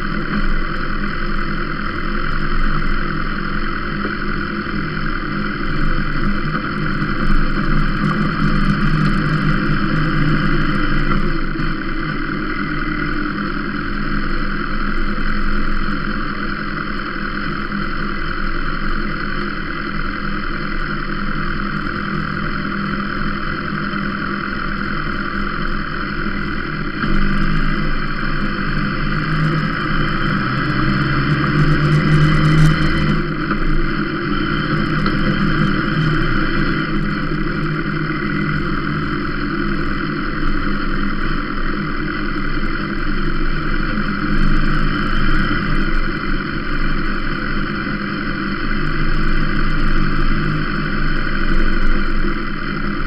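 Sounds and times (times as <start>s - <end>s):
motorcycle engine running at low revs: 0.0s - 53.0s.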